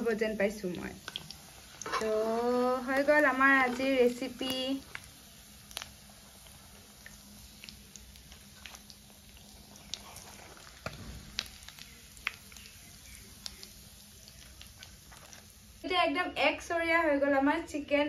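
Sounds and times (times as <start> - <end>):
oil crackling and popping: 0.0 - 15.9.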